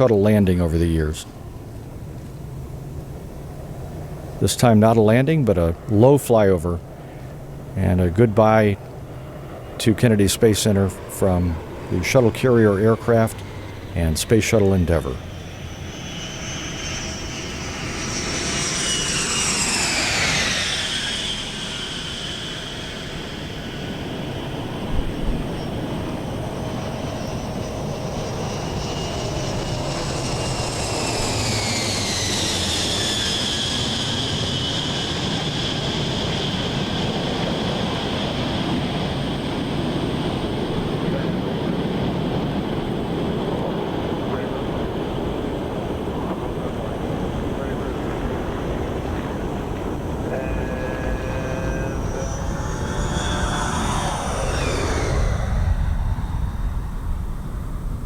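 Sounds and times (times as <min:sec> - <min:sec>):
falling turbine whine: 0:00.0 - 0:58.0
jet engines flying overhead: 0:00.0 - 0:58.0.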